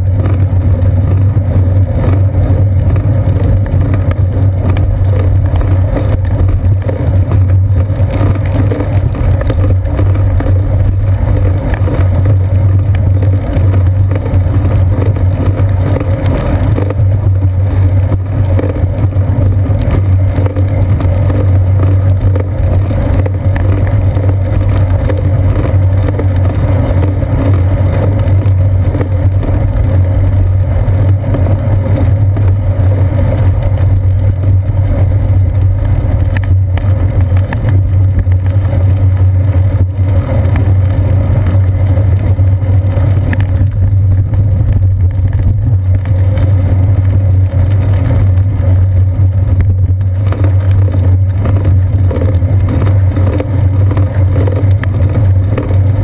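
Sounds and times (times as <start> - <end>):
bicycle road vibration: 0.0 - 56.0
wind rumble: 0.0 - 56.0.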